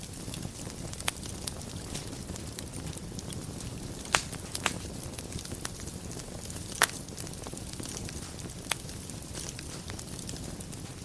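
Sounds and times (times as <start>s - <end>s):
fire crackling in a fireplace: 0.0s - 11.0s
sharp pop of fire: 0.3s - 11.0s.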